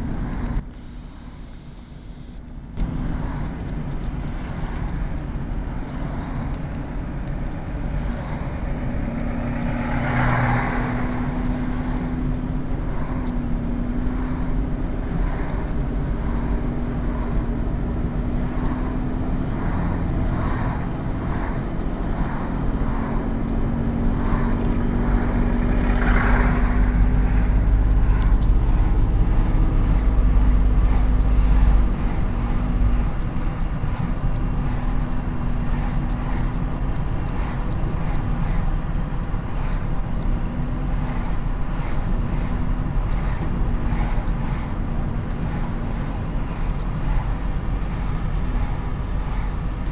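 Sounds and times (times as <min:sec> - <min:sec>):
road and wind rumble: 0:00.0 - 0:49.9
vehicle engine hum: 0:00.0 - 0:49.9.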